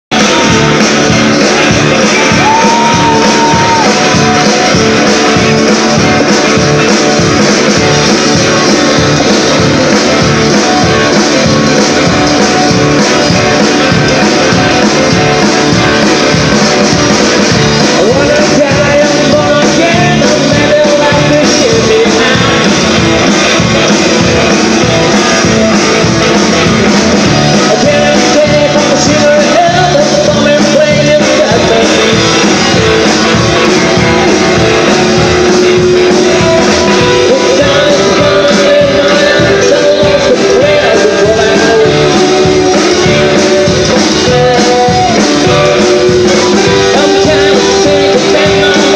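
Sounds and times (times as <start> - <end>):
live rock and roll band: 0.1 - 48.9.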